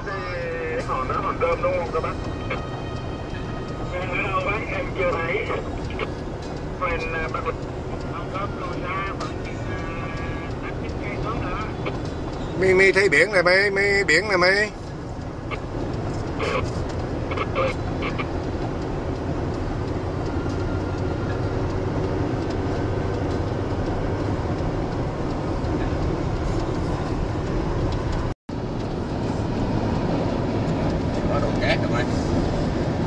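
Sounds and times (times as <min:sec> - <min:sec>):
car road noise rumble: 0:00.0 - 0:33.0.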